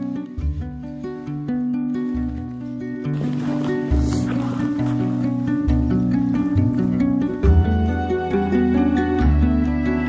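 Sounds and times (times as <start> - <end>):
plucked string melody: 0.0 - 10.0.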